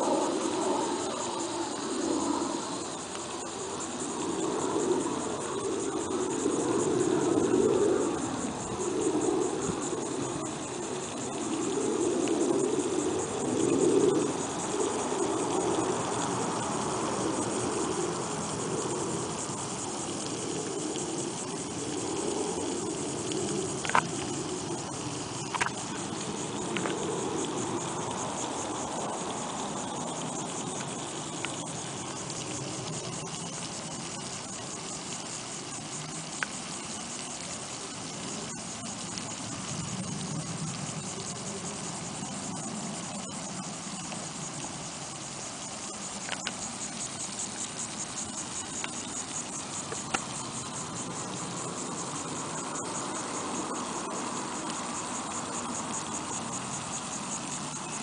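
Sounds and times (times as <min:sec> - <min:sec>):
faint insect chirring: 0:00.0 - 0:58.0.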